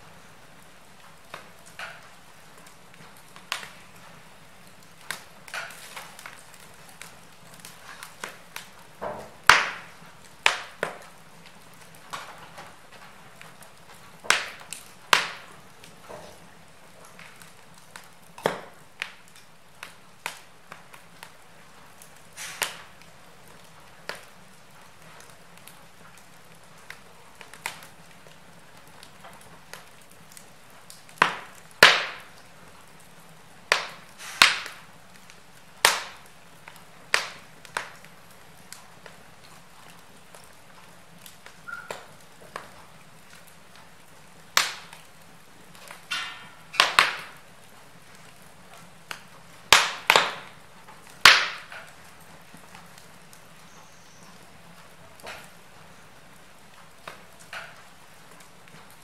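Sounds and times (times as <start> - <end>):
fire popping: 0.0 - 59.0
logs crackling in fireplace: 0.0 - 59.0.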